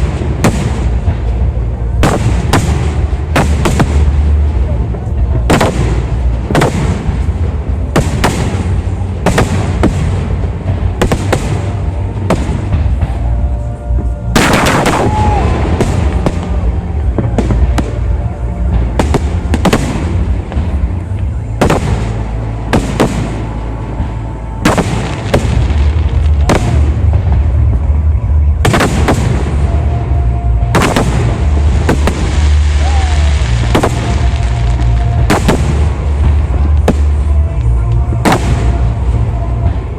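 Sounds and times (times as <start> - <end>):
low rumble of booms: 0.0 - 39.9.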